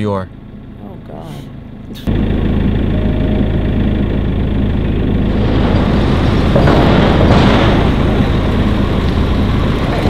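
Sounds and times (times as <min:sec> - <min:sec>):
diesel engines idling: 0:00.0 - 0:10.0.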